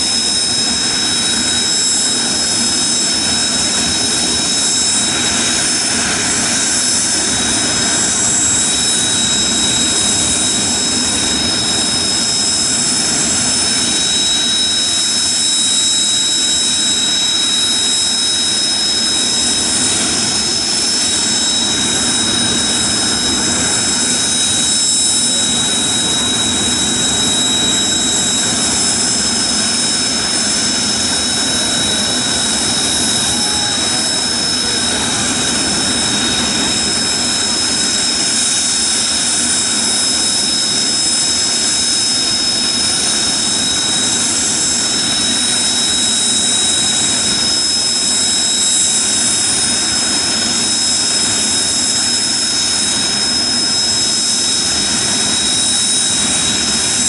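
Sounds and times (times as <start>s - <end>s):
jet engines running with whine: 0.0s - 57.0s.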